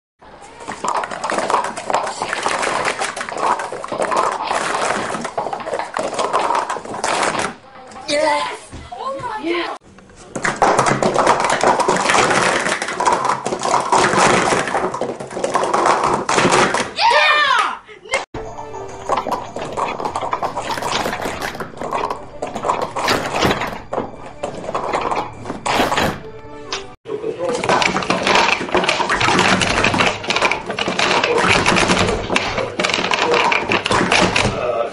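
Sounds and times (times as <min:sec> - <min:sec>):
plastic cups clattering: 0:00.3 - 0:08.1, 0:10.0 - 0:17.0, 0:18.4 - 0:34.9.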